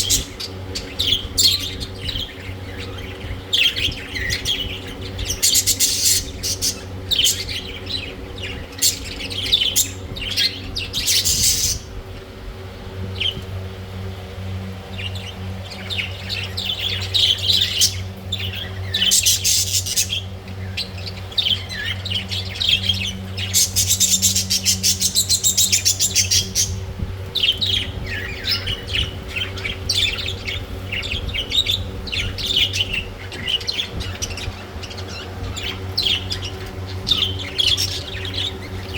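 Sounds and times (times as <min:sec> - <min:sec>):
budgerigars chirping and squawking: 0:00.0 - 0:12.3, 0:13.1 - 0:13.5, 0:14.6 - 0:38.9
steady low hum: 0:00.0 - 0:38.9.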